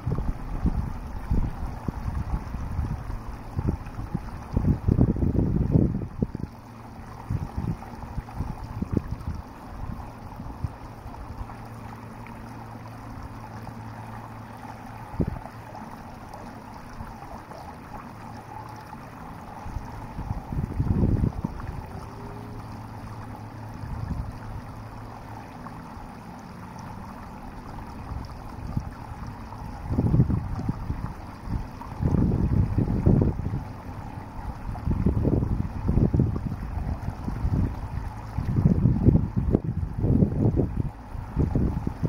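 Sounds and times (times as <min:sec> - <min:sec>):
wind buffeting microphone: 0:00.0 - 0:13.6, 0:14.6 - 0:25.5, 0:27.0 - 0:42.0
shallow water rushing in ditch: 0:00.0 - 0:42.0.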